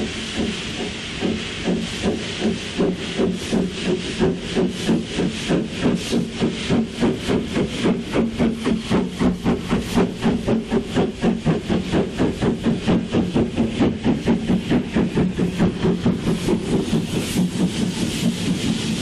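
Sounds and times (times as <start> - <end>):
steam locomotive chuffing: 0.0 - 19.0.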